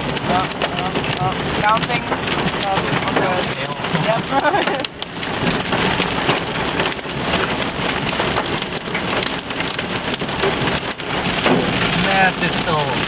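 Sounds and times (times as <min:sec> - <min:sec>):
hailstones clattering on car: 0:00.0 - 0:13.0.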